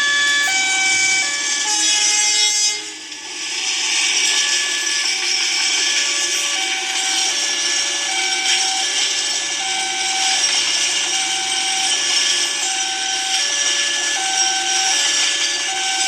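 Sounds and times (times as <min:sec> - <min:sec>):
crossing warning alarm two-tone: 0:00.0 - 0:03.0, 0:03.8 - 0:16.0.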